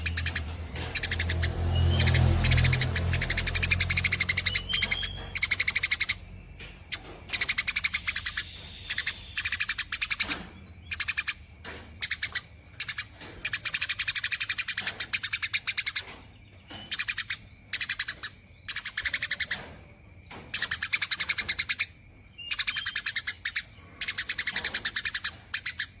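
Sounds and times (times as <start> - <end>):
sparrow chattering in rapid trills: 0.0 - 26.0.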